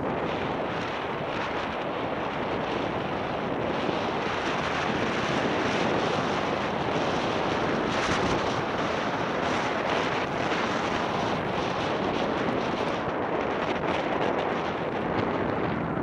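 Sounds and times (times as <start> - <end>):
wind rushing on microphone: 0.0 - 16.0.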